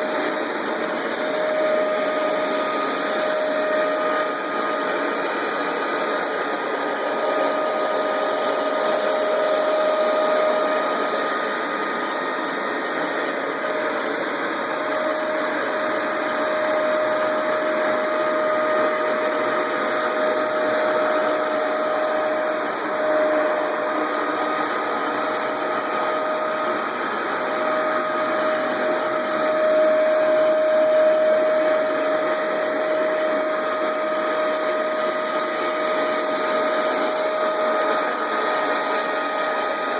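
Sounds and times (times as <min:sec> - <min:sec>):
carpet cleaner motor whining: 0:00.0 - 0:39.9.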